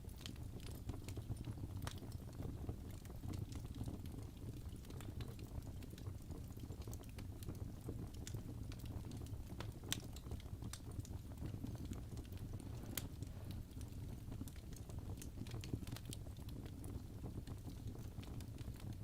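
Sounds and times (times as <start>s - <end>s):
logs crackling and popping: 0.0s - 19.0s
wood fire burning: 0.0s - 19.0s.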